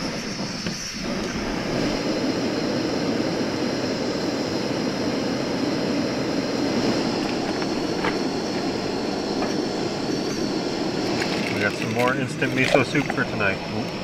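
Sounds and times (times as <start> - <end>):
gas camp stove roaring: 0.0 - 14.0.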